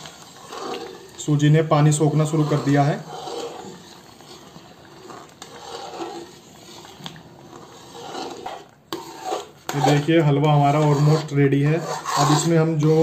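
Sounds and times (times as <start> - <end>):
metal spoon stirring thick food: 0.0 - 13.0.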